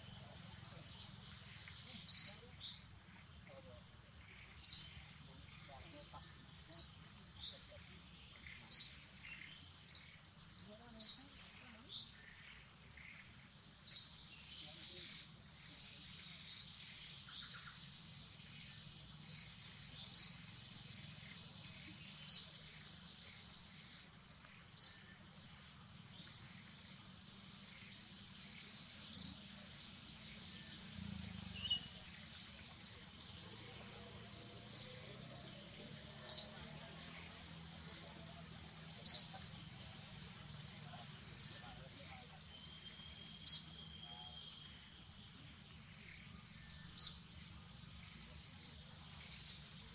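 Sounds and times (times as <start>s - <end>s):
bird chirping: 0.0s - 49.9s
forest background noise: 0.0s - 49.9s.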